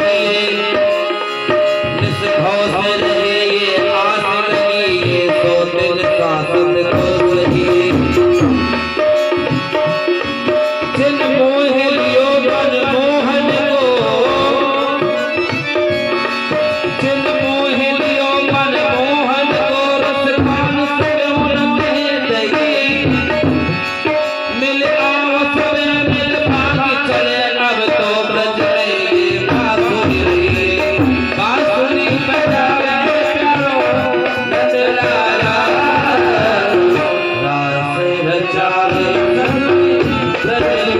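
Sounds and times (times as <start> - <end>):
ornamented melody line: 0.0 - 40.9
tabla beat: 0.0 - 40.9.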